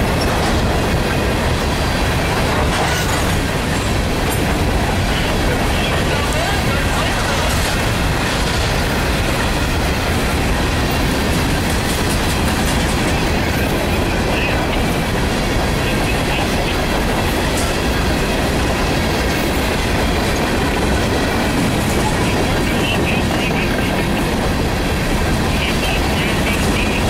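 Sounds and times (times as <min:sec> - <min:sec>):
freight train rolling past: 0:00.0 - 0:27.0
wheels clicking on rails: 0:00.0 - 0:27.0.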